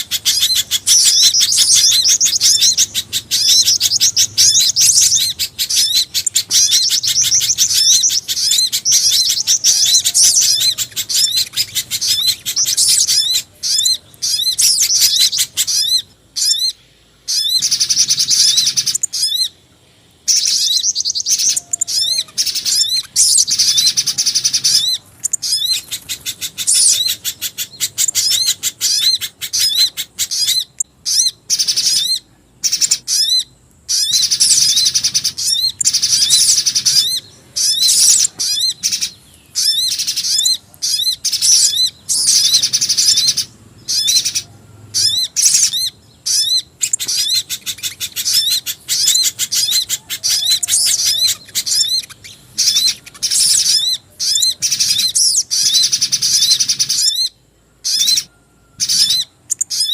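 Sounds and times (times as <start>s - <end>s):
rapid high bird chirps: 0.0s - 59.9s.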